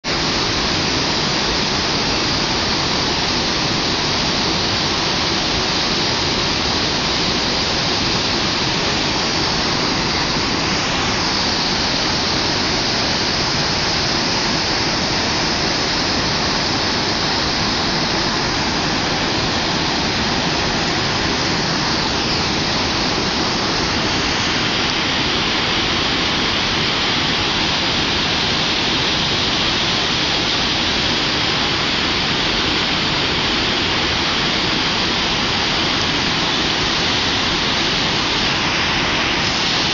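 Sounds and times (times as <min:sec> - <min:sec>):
river water rushing over rocks: 0:00.1 - 0:39.9.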